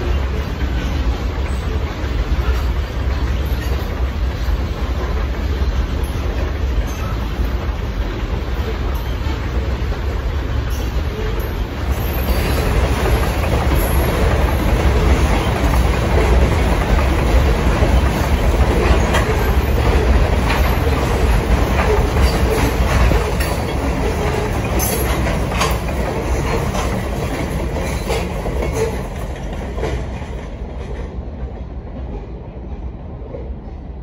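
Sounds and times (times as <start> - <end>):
freight train rumble: 0.0 - 34.0
train wheels clacking: 0.0 - 34.0.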